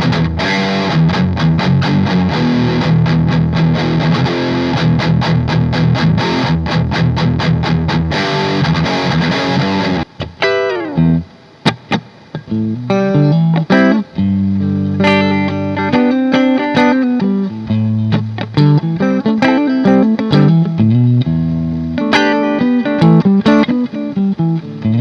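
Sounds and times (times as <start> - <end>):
distorted electric guitar strumming: 0.0 - 25.0
guitar notes sliding down: 0.0 - 25.0.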